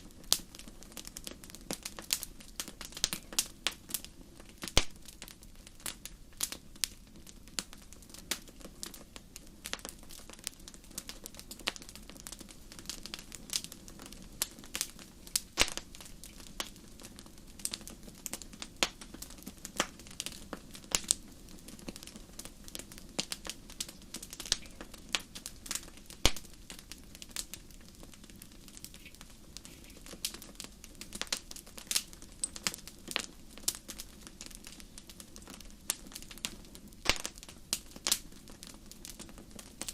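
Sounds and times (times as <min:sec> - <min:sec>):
bonfire crackling: 0:00.0 - 0:39.9.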